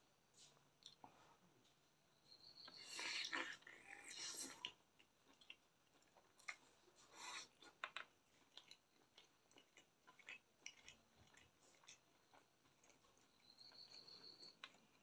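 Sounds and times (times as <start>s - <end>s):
person chewing with mouth closed: 2.7s - 15.0s.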